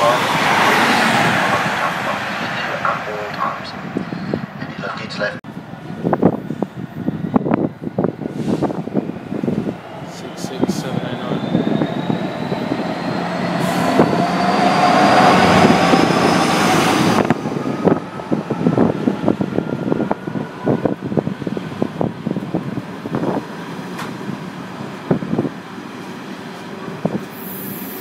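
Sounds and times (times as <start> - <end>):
train rising whine: 0.0 - 4.9, 5.5 - 28.0.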